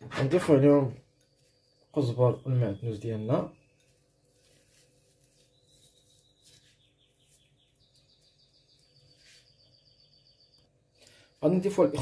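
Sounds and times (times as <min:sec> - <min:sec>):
faint high trilling chirp: 0:00.7 - 0:12.0.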